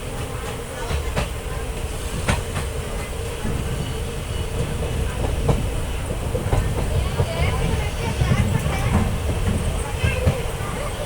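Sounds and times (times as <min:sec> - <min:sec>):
train wheels rumbling: 0:00.0 - 0:11.0
wheels clacking over rail joints: 0:00.0 - 0:11.0.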